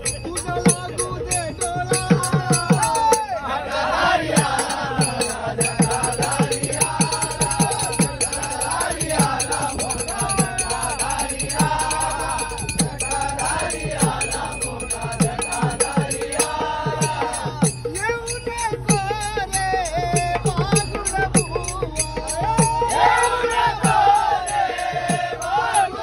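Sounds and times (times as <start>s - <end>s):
men singing together: 0.0s - 26.0s
percussion beat: 0.0s - 26.0s.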